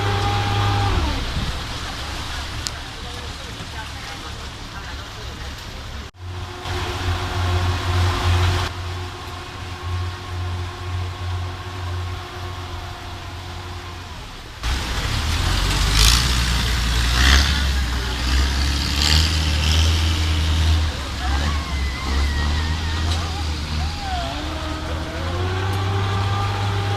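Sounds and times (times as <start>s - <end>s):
engine humming: 0.0s - 26.9s
hissing gusts: 0.0s - 26.9s.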